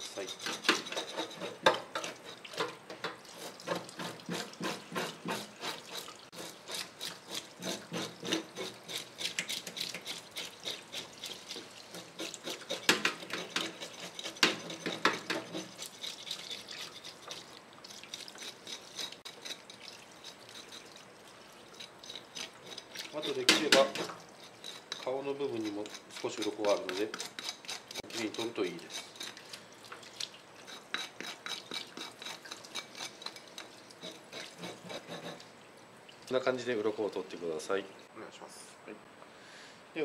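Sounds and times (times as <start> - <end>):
fish scales being scraped: 0.0 - 29.7, 30.6 - 35.5.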